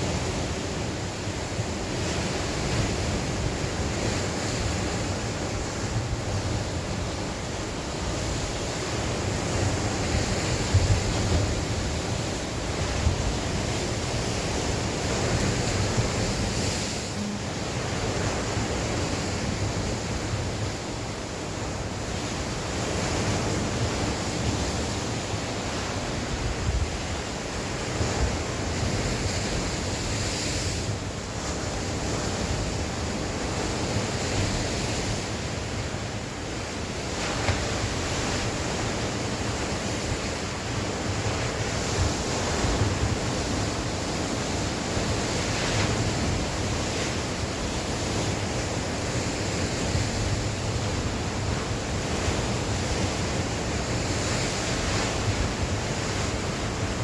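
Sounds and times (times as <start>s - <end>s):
sea waves breaking on shore: 0.0s - 57.0s
wind buffeting the microphone: 0.0s - 57.0s.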